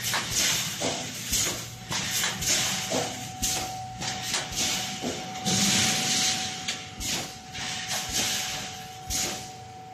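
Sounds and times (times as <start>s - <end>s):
welding machine whine: 0.0s - 9.9s.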